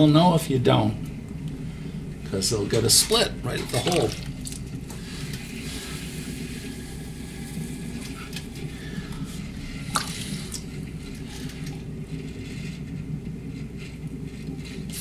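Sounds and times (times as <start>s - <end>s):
potter's wheel humming: 0.0s - 15.0s.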